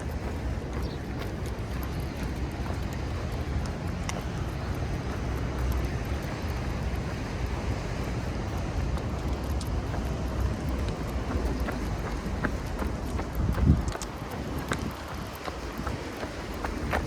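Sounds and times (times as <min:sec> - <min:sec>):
faint ticks: 0:00.0 - 0:17.0
wind buffeting microphone: 0:00.0 - 0:17.0.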